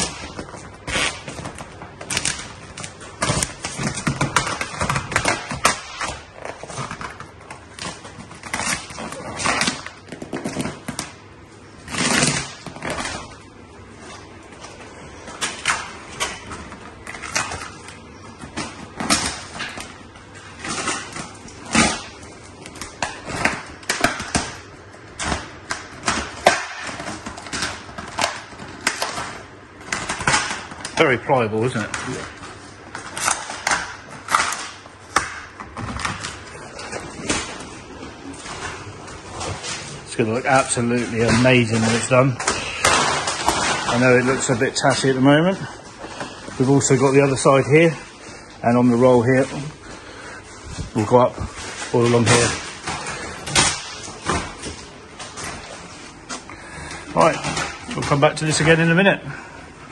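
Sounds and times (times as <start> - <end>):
vinyl film crackling and rustling: 0.0 - 59.9.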